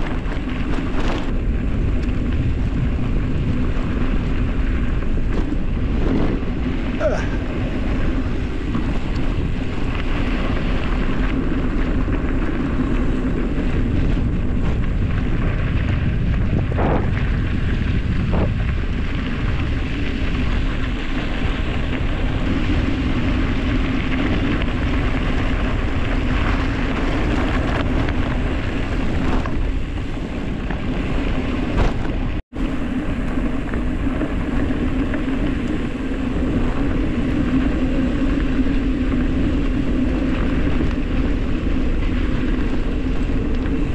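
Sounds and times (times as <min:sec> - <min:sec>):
wind rushing on microphone: 0:00.0 - 0:43.9.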